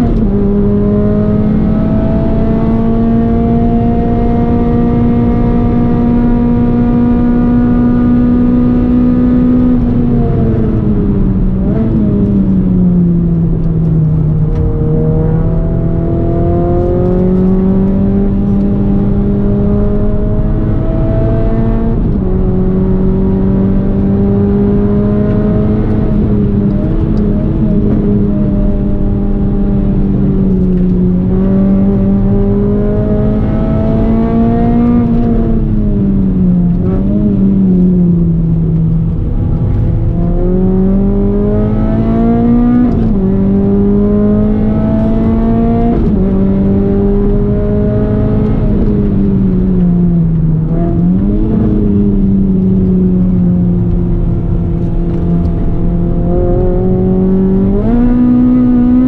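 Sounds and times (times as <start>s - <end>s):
car engine revving hard: 0.0s - 59.0s.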